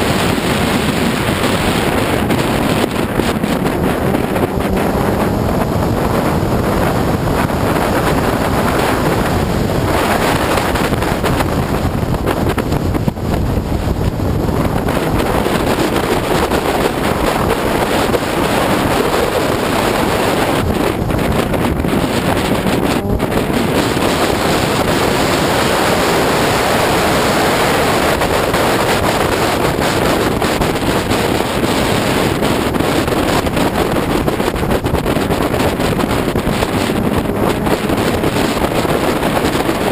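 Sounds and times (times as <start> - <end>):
car engine and tyre noise: 0.0 - 39.9
wind rushing on microphone: 0.0 - 39.9.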